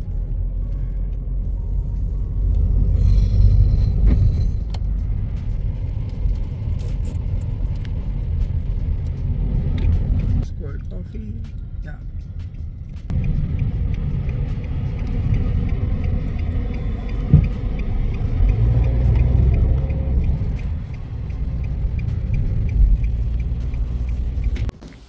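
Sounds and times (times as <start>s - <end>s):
car tyres and engine rumble: 0.0s - 25.0s.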